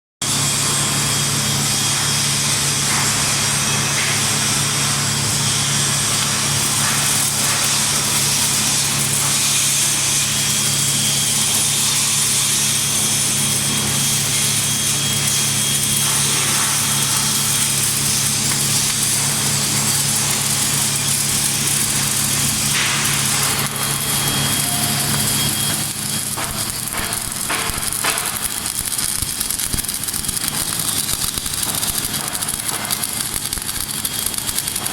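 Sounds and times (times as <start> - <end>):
arc welding hiss: 0.3 - 34.9.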